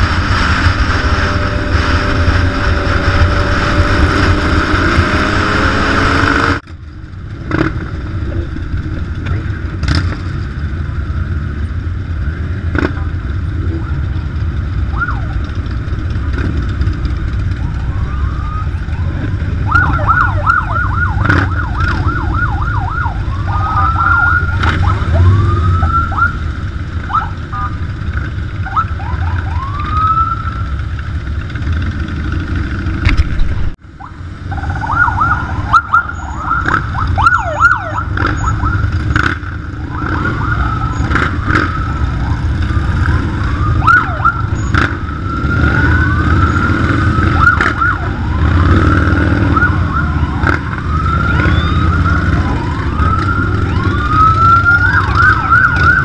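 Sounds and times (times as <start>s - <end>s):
sirens yelping and wailing: 0.0s - 33.0s, 33.8s - 56.0s
motorcycle engines rumbling: 0.0s - 56.0s.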